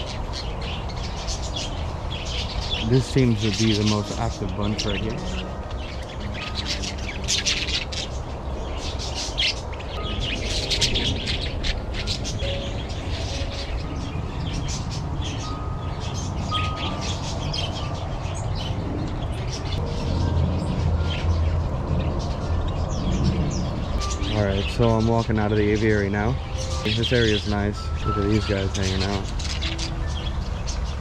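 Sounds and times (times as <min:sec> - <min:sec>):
small birds chirping: 0:00.0 - 0:31.0
steady low rumble: 0:00.7 - 0:31.0.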